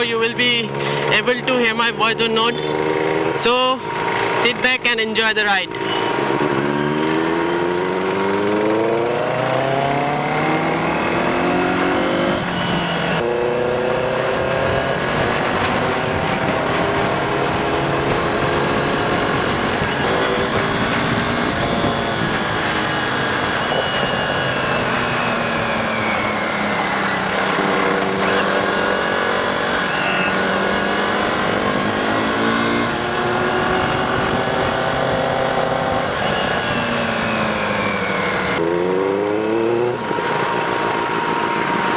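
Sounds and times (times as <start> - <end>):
motorcycle revving through gears: 0.0 - 41.9.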